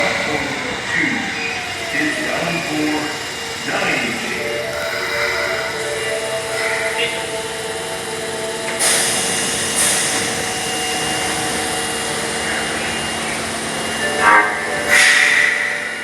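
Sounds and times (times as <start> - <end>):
hissing bursts: 0.0 - 13.8
subway train electrical hum: 0.0 - 16.0.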